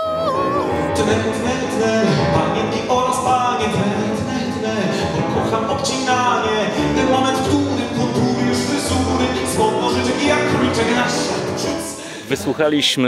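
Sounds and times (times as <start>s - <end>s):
piano accompaniment: 0.0s - 12.1s
man singing into a microphone: 0.0s - 12.6s.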